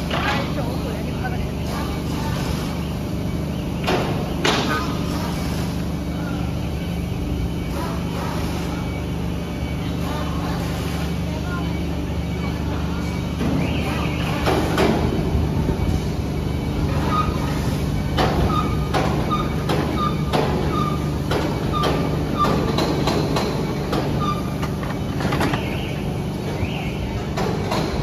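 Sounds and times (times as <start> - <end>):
factory machinery humming: 0.0 - 28.0.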